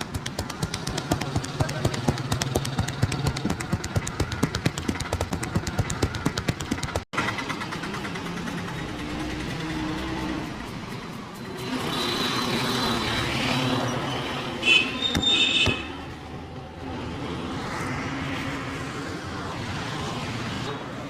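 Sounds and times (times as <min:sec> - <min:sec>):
passing vehicles traffic noise: 0:00.0 - 0:21.0.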